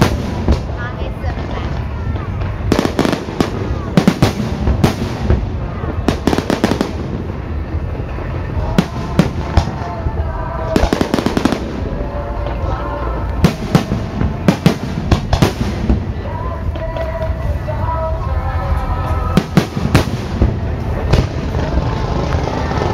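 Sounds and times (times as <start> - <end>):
fireworks cracking and banging: 0.0 - 22.9.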